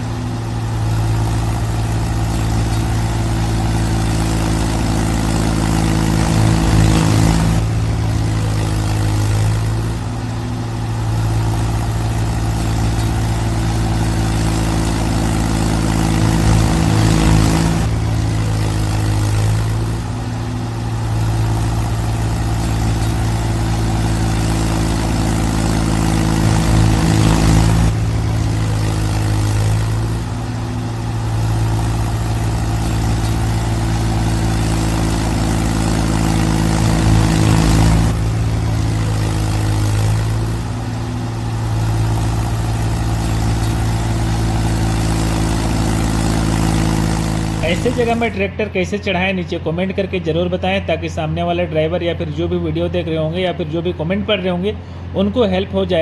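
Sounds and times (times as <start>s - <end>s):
tractor diesel engine running hard: 0.0s - 56.0s.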